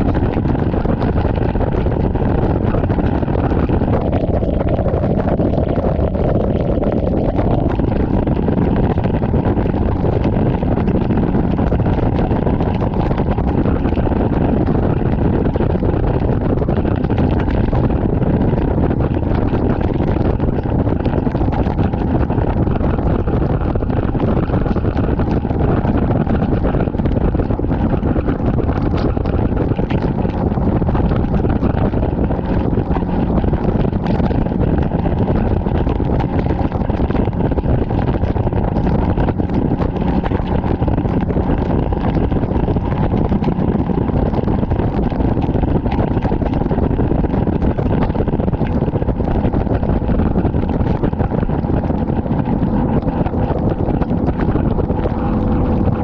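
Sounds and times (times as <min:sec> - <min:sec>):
outboard motor: 0:00.0 - 0:56.0
rushing water: 0:00.0 - 0:56.0
wind noise on microphone: 0:00.0 - 0:56.0.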